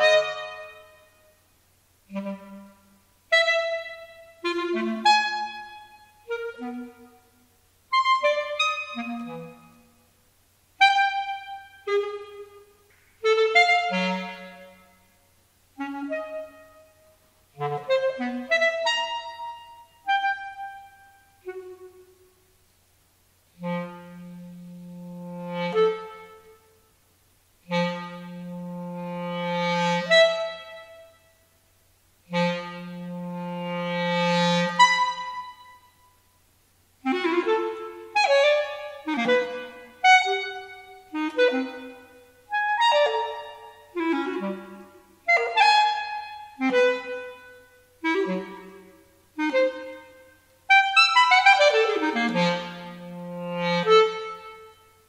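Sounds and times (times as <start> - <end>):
solo clarinet playing: 0.0 - 10.1, 10.8 - 22.3, 23.5 - 26.9, 27.6 - 31.5, 32.2 - 36.3, 37.0 - 55.0.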